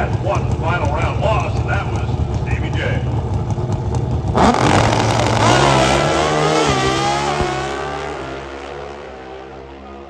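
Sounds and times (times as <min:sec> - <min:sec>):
racing motorcycle engines revving: 0:00.0 - 0:10.0.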